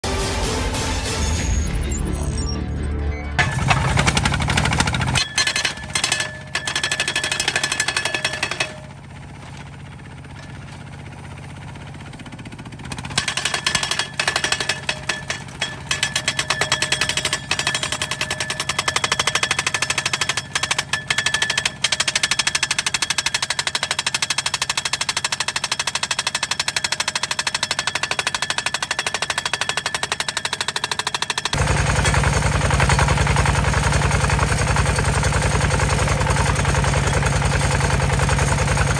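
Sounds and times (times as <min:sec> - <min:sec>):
diesel engine running: 0:00.1 - 0:26.7, 0:31.0 - 0:38.9
pile hammer pounding steel post: 0:03.4 - 0:09.0, 0:12.8 - 0:38.9.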